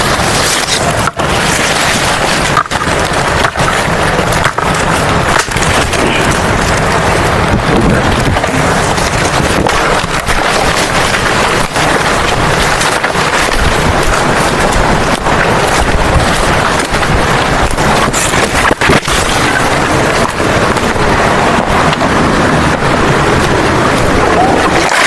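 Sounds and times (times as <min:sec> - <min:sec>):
rushing water roar: 0:00.0 - 0:25.0.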